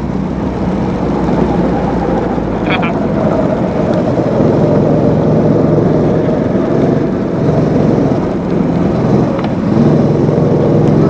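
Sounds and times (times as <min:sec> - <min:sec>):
go-kart engine buzzing: 0:00.0 - 0:11.0.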